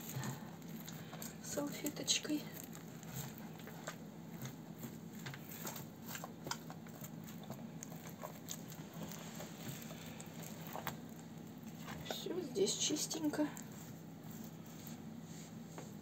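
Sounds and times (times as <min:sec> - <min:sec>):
paper napkin rustling: 0:00.0 - 0:16.0
steady low hum: 0:00.0 - 0:16.0.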